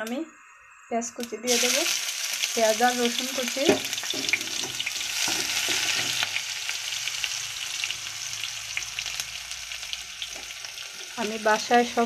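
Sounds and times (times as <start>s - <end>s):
onion and garlic sizzling in oil: 1.2s - 12.0s.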